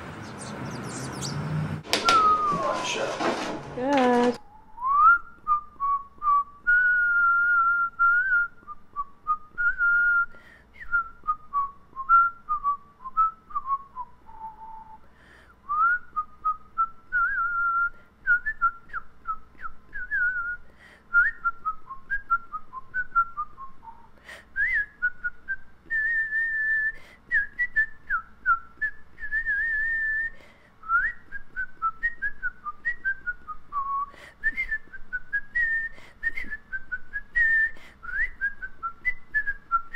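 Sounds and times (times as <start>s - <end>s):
person whistling a tune: 2.0s - 2.8s, 4.4s - 15.0s, 15.7s - 39.9s.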